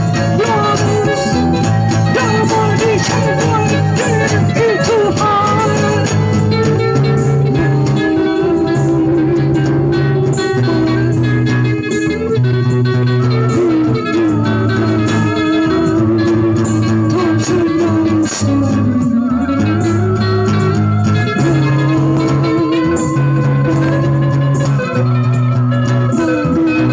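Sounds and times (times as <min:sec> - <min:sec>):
guitar-led instrumental music: 0:00.0 - 0:26.9
held bass notes: 0:00.0 - 0:26.9.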